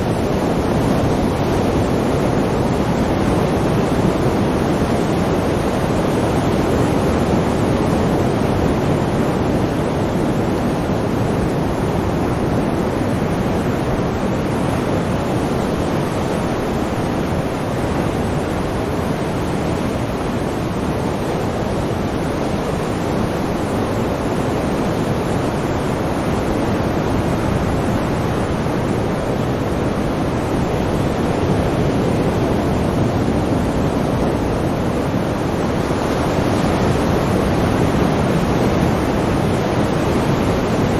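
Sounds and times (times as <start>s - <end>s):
sea waves and surf: 0.0s - 40.9s.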